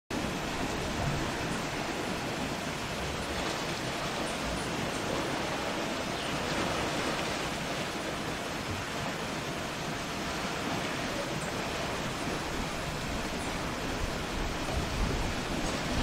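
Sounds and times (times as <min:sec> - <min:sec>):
sea water washing against rocks: 0:00.1 - 0:16.0.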